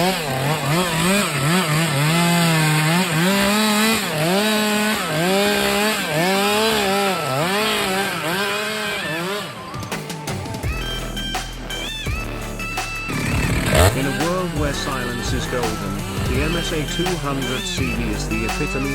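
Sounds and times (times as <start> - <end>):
chainsaw cutting wood: 0.0 - 9.8, 13.0 - 18.9.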